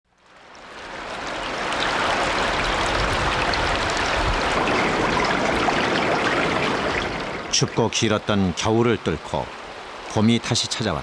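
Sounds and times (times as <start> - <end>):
stream water rushing: 0.1 - 11.0.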